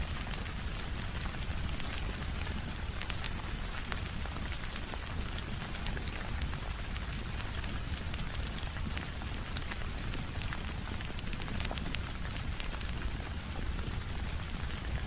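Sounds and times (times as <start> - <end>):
rain on a window: 0.0 - 15.0
wood fire crackling: 0.1 - 15.0.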